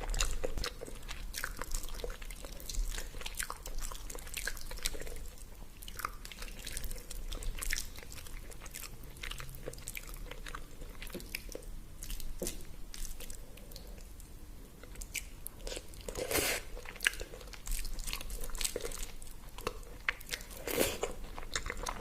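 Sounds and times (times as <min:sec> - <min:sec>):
person chewing and crunching: 0:00.0 - 0:14.2, 0:14.8 - 0:22.0.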